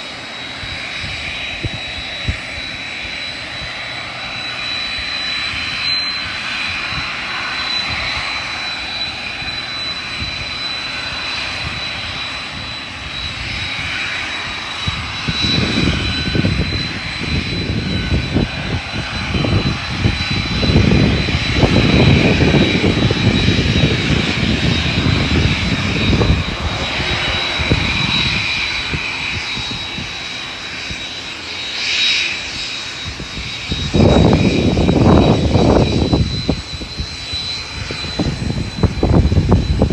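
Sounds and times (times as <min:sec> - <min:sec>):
airliner engines whining: 0:00.0 - 0:39.9.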